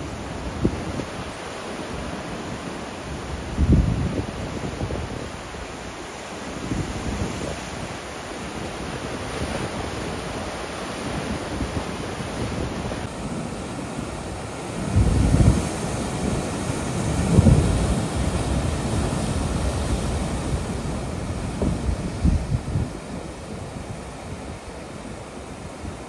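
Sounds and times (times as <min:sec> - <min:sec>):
surf washing over rocks: 0:00.0 - 0:26.0
wind buffeting microphone: 0:00.0 - 0:26.0.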